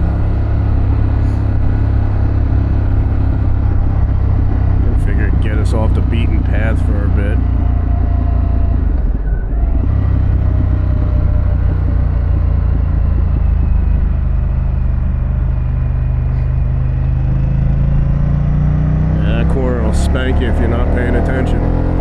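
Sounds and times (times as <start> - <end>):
motorcycle engine droning: 0.0 - 22.0.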